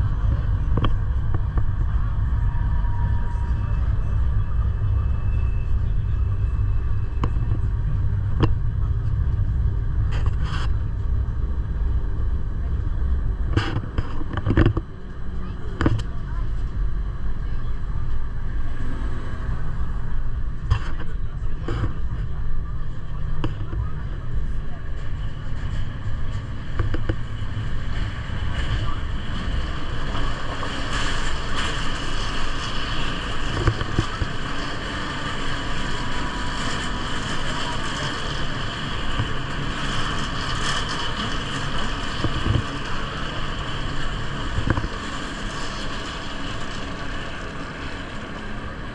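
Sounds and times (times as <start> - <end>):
train rumbling: 0.0 - 48.9.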